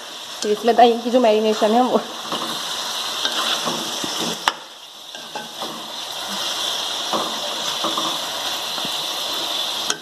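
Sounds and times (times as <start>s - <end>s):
chicken sizzling in oil: 0.0s - 10.0s
spatula scraping a pan: 1.5s - 10.0s.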